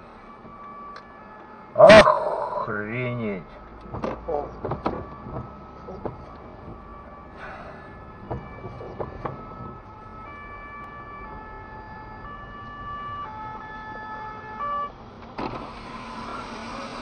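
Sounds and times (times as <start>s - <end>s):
road and engine drone: 0.0s - 17.0s
two-tone fire engine siren: 0.0s - 17.0s.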